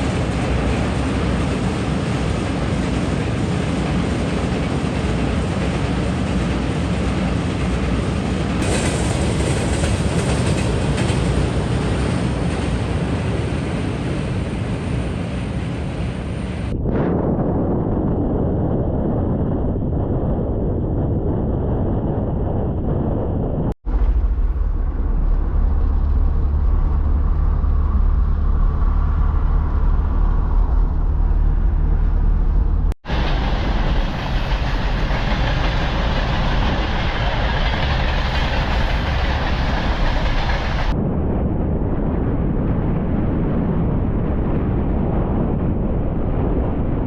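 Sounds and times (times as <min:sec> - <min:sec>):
strong wind buffeting microphone: 0:00.0 - 0:47.0.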